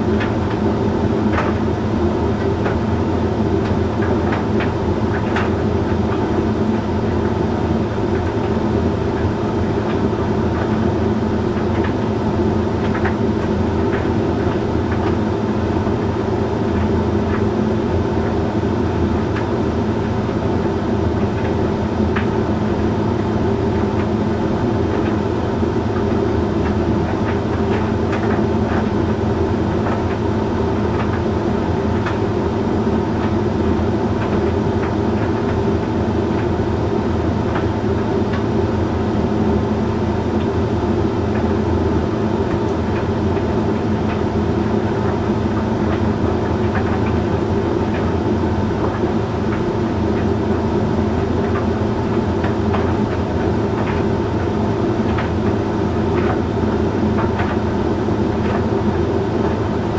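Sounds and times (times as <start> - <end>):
tumble dryer motor and fan humming: 0.0 - 59.9.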